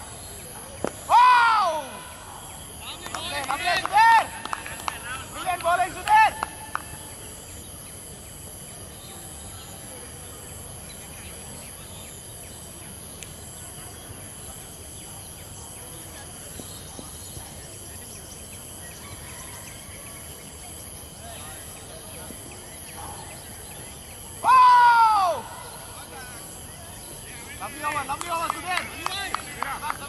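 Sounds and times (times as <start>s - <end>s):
outdoor ambience: 0.0s - 30.0s.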